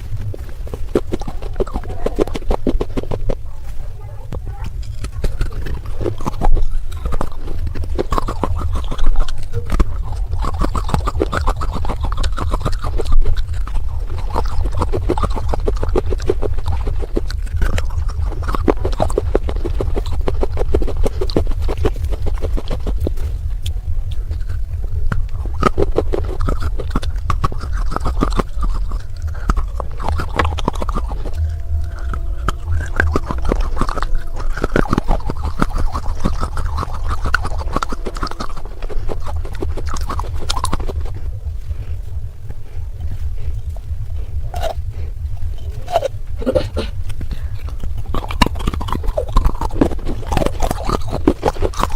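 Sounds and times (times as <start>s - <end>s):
clay pot pieces crunching: 0.0s - 41.6s, 43.1s - 51.9s.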